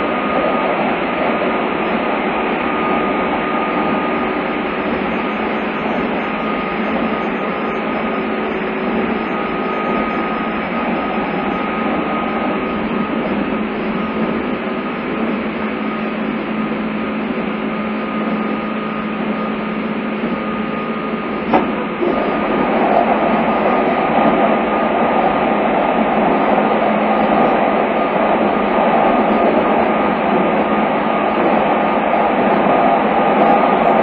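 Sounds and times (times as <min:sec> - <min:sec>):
constant hum: 0:00.0 - 0:34.0
train rolling rumble: 0:00.0 - 0:34.0.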